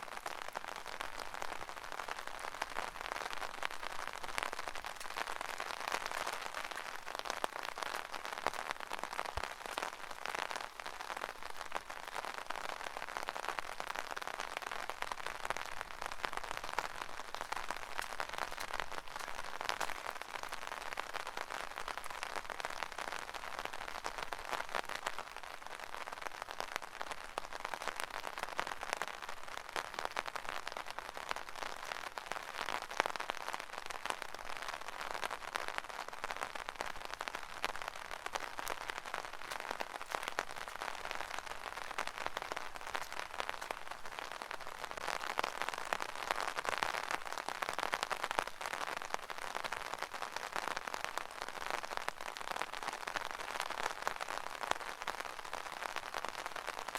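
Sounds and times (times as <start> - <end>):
rain falling on an umbrella: 0.0 - 56.9.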